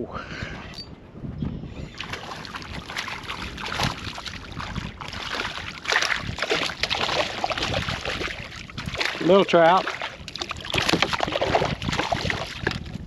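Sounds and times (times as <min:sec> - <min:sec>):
water splashing: 0:02.0 - 0:13.0.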